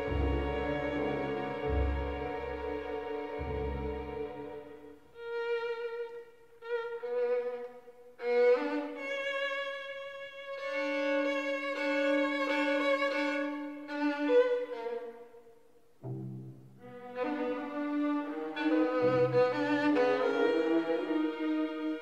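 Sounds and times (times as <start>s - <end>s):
violin playing long notes: 0.0s - 15.0s, 16.2s - 22.0s.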